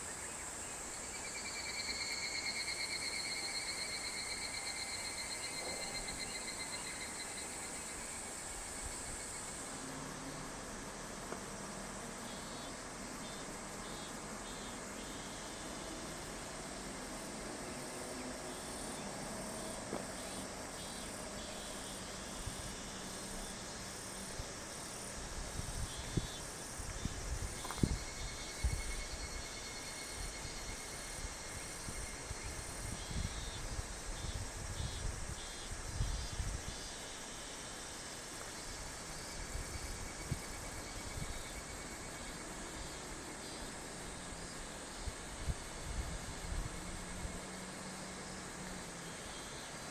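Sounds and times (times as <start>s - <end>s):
insects calling: 0.0s - 49.9s.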